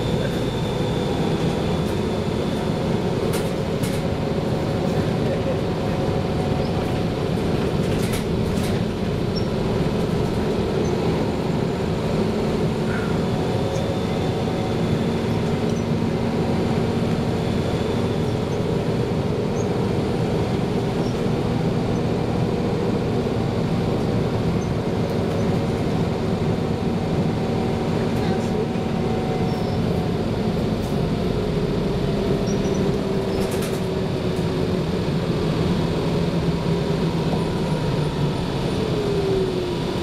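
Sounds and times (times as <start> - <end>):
bus interior engine drone: 0.0 - 40.0.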